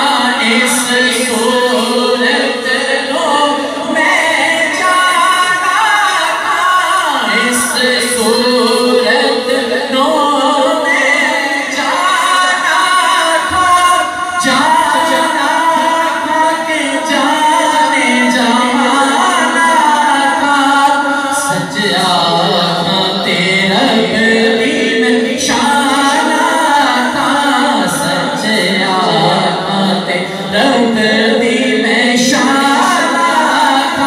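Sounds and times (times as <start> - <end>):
group of voices singing: 0.0 - 34.0
man chanting through loudspeaker: 0.0 - 34.0.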